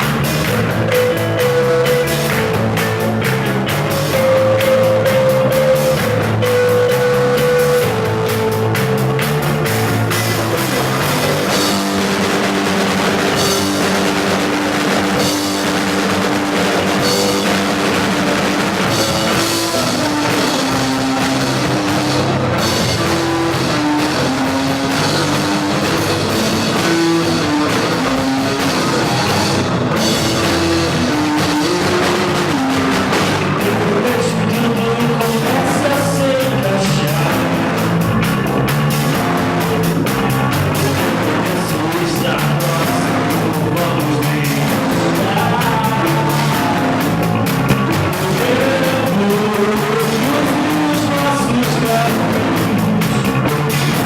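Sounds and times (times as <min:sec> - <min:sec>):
drum kit: 0:00.0 - 0:54.0
electric guitar: 0:00.0 - 0:54.0
live rock band playing: 0:00.0 - 0:54.0.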